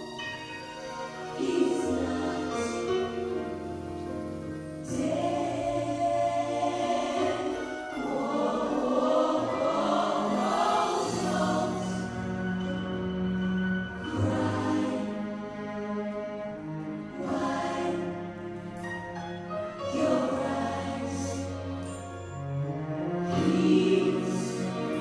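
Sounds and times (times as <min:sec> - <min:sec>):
gospel choir singing: 0:01.0 - 0:25.0.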